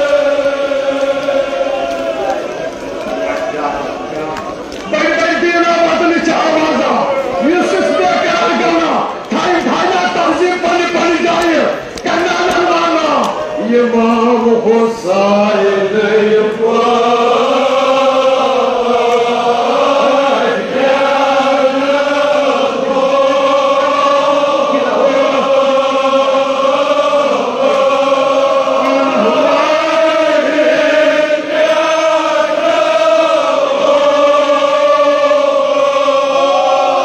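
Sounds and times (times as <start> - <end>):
men chanting together: 0.0 - 2.6, 5.1 - 37.0.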